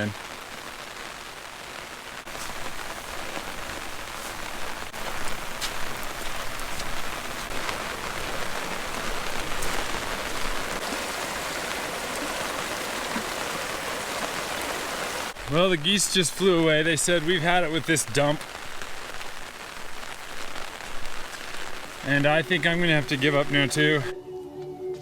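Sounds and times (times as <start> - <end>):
rain falling on an umbrella: 0.0 - 24.2.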